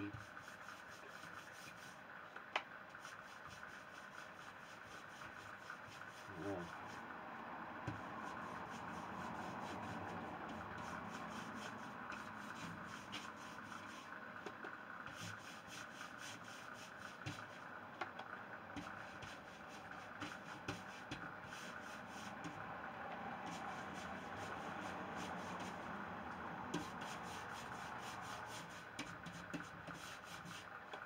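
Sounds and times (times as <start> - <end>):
cloth rubbing wood: 0.0 - 2.0, 2.9 - 7.1, 7.8 - 17.7, 18.8 - 22.6, 23.4 - 30.8.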